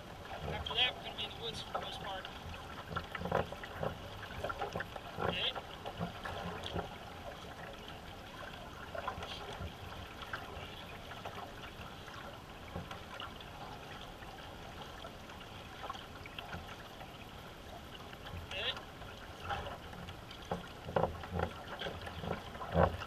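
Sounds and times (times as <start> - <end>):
paddle strokes in water: 0.0 - 23.0
water trickling and splashing: 0.0 - 23.0.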